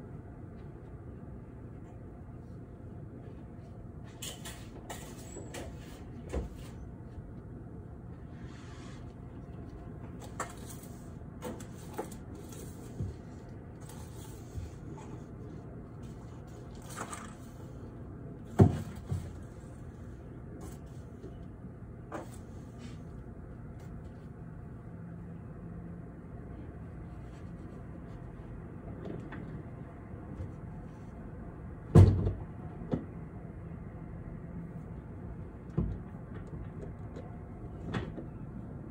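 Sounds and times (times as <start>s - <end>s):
city background hum: 0.0s - 38.9s.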